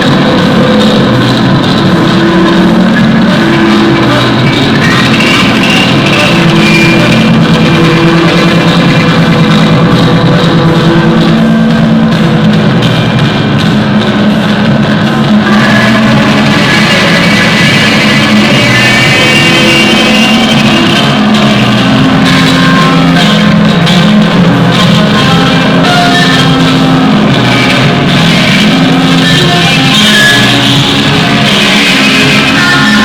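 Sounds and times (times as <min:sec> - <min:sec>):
distorted electric guitar: 0:00.0 - 0:33.0
drums: 0:00.0 - 0:33.0.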